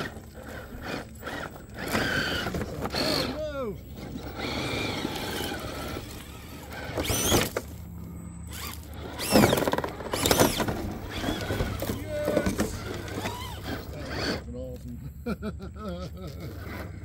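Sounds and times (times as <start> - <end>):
toy truck motors whining: 0.0 - 14.9, 16.2 - 17.0.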